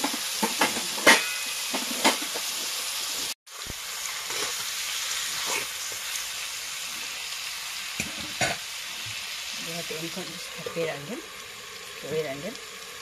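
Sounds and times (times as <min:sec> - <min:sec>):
meat sizzling in a wok: 0:00.0 - 0:13.0.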